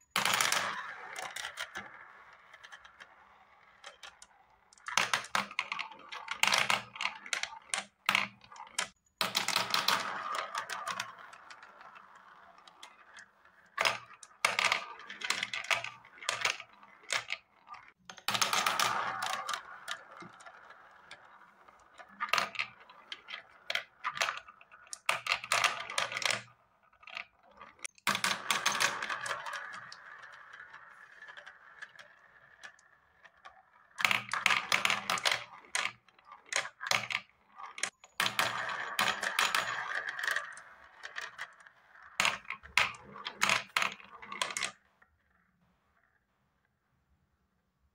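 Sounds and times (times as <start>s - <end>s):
marbles clattering on plastic track: 0.1s - 44.8s
marbles rolling whir: 0.2s - 45.4s.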